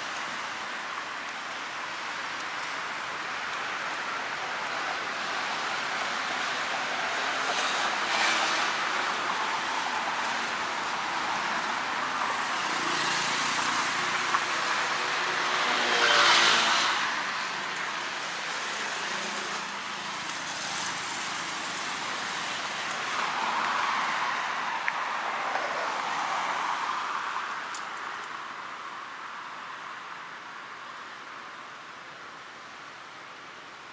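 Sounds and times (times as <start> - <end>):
vehicles passing: 0.0 - 33.9.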